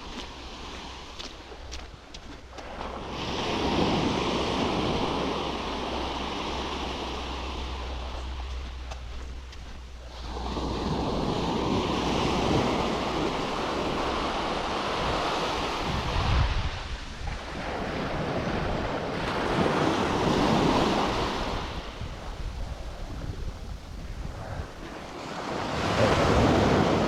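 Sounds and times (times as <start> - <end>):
surf washing onto sandy shore: 0.0 - 27.0
wind buffeting microphone: 0.0 - 27.0.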